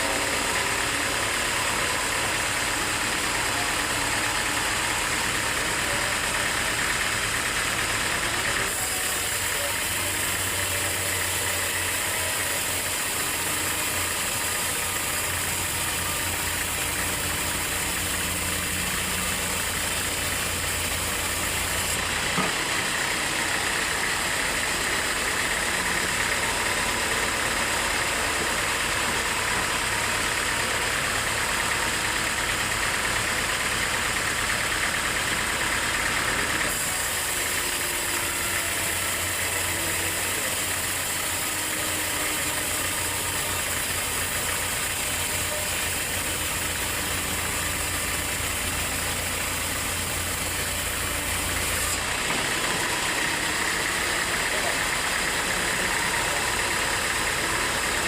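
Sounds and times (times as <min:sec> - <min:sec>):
sawmill machinery droning: 0:00.0 - 0:58.0.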